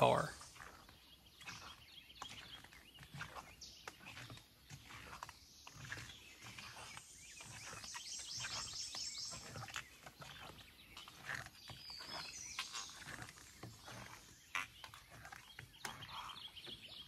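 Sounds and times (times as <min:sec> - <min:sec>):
footsteps on wooden planks: 0:00.0 - 0:17.0
songbird singing: 0:00.0 - 0:17.0.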